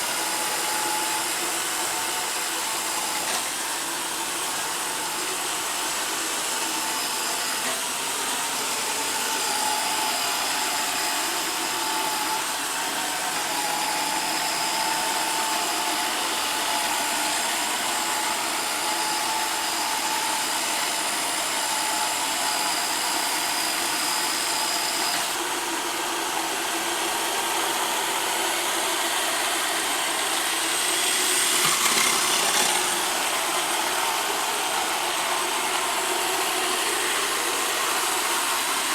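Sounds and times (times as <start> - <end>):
robot vacuum whirring: 0.0 - 38.9.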